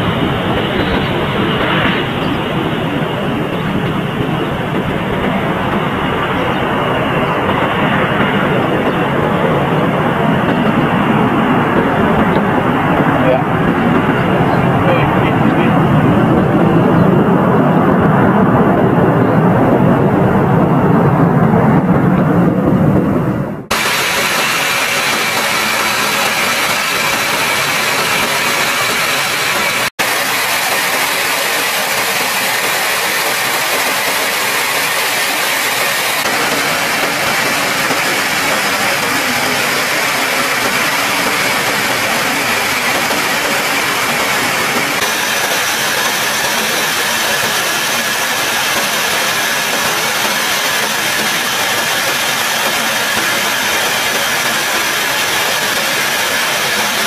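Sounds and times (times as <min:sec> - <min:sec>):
jet engines and rushing air: 0:00.0 - 0:57.0.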